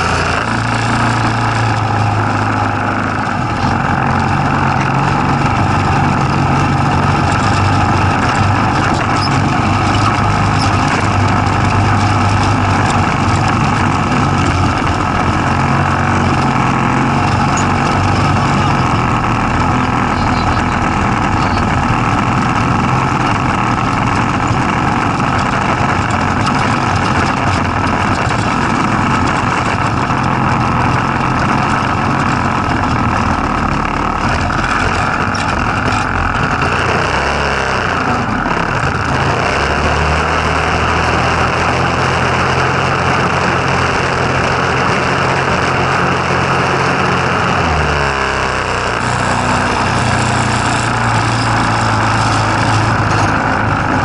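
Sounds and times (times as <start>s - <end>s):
go-kart engine running: 0.0s - 54.0s
steady rushing noise: 0.0s - 54.0s.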